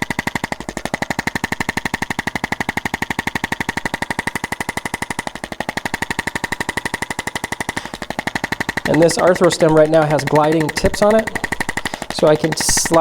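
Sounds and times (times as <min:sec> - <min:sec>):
rapid electric tapping: 0:00.0 - 0:13.0.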